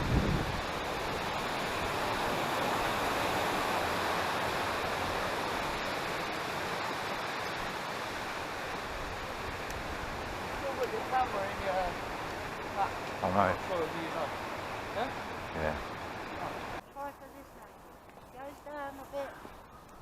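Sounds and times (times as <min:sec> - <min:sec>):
flowing river water: 0:00.0 - 0:16.8.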